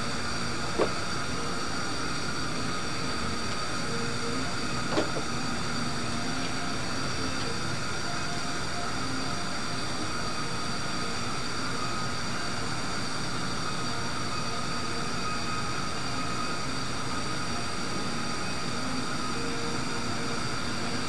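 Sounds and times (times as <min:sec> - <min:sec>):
faint hum: 0:00.0 - 0:21.0
steady hiss: 0:00.0 - 0:21.0.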